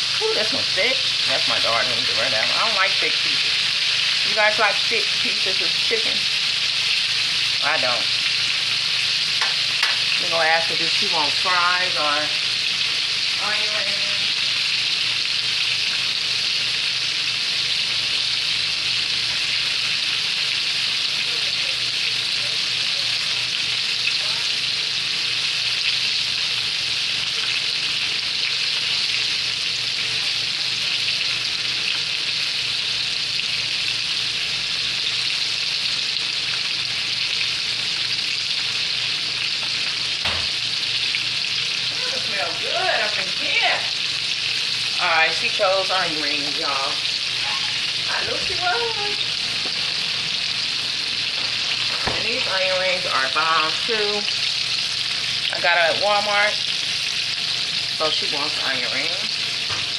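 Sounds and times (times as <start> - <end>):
chicken sizzling in hot oil: 0.0 - 59.9.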